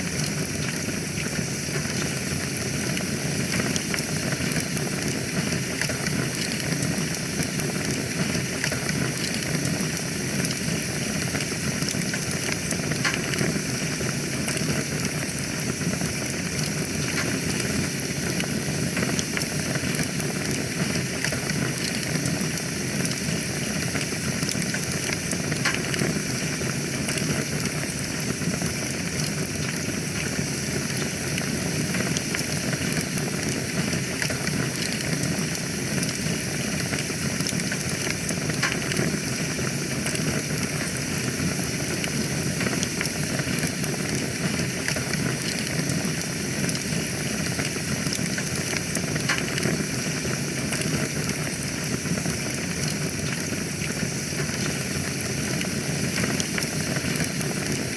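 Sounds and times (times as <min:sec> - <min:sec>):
wood fire hissing and crackling: 0:00.0 - 0:57.9.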